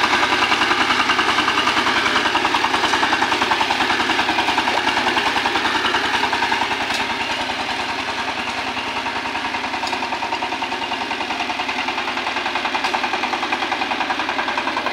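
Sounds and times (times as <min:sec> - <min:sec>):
diesel engine chugging: 0:00.0 - 0:14.9.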